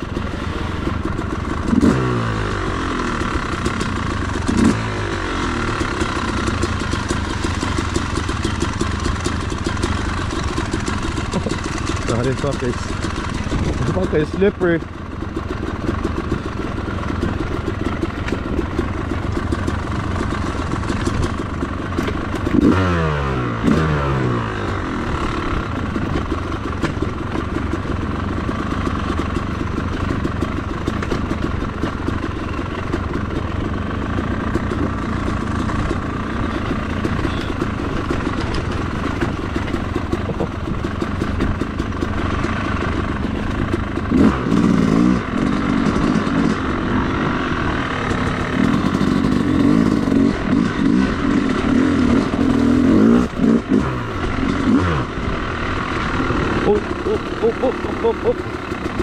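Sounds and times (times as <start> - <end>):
dirt bike engine revving: 0.0 - 26.8, 34.1 - 59.0.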